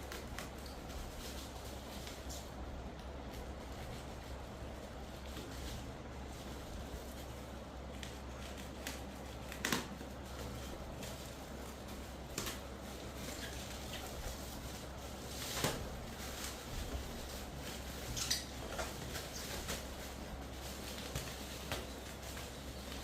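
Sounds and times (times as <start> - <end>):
rustling of things handled: 0.0 - 23.0
steady low hum: 0.0 - 23.0.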